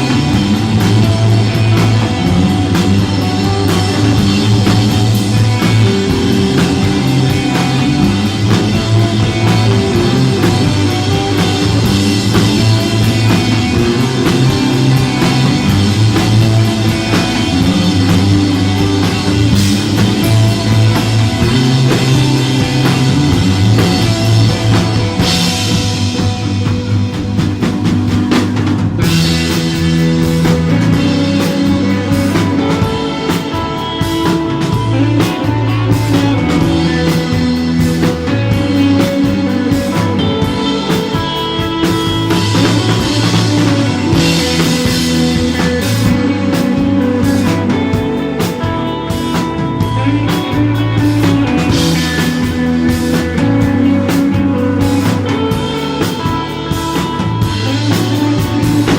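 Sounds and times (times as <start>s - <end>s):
bass guitar: 0.0s - 58.9s
drum kit: 0.0s - 58.9s
electric guitar: 0.0s - 58.9s.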